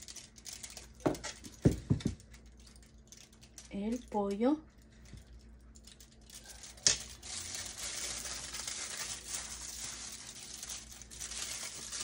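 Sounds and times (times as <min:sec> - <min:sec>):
foil and leaf crinkling: 0:00.0 - 0:12.0.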